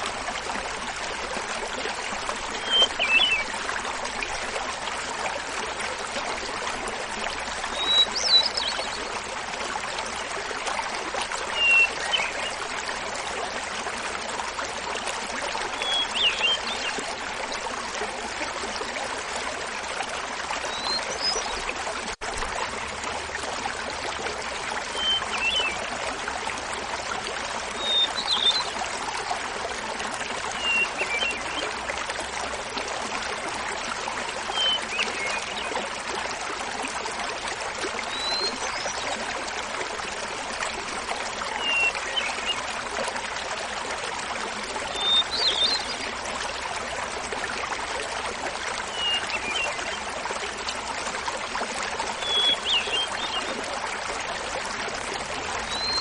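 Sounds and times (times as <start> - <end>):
small waterfall babbling: 0.0 - 56.0.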